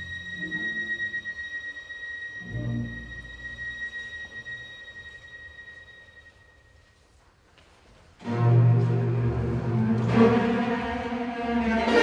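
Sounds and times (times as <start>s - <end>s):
low strings cellos and double basses: 0.0s - 6.1s, 8.2s - 12.0s.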